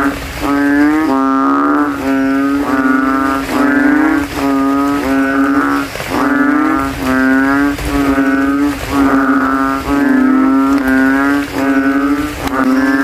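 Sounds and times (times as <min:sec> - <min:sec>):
frogs calling: 0:00.0 - 0:13.0.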